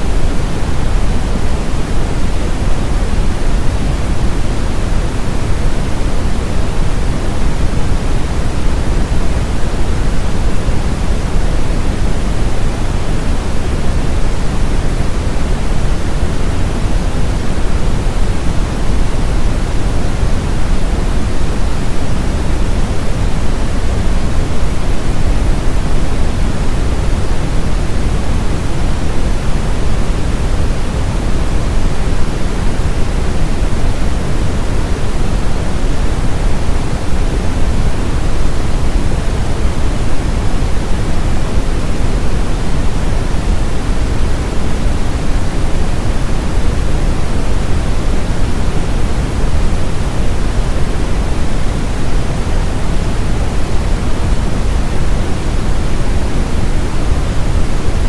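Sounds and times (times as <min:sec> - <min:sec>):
deep steady brown noise: 0:00.0 - 0:58.0.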